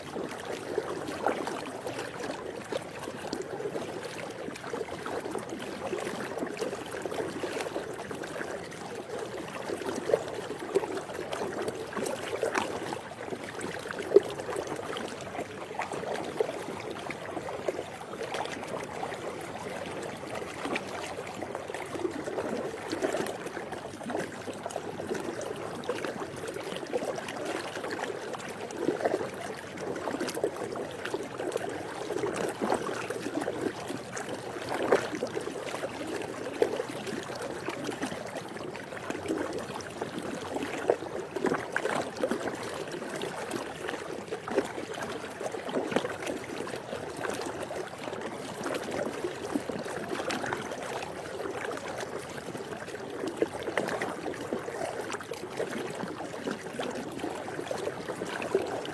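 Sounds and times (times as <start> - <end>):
pool water lapping and trickling: 0.0 - 58.9
small water splashes: 0.0 - 58.9.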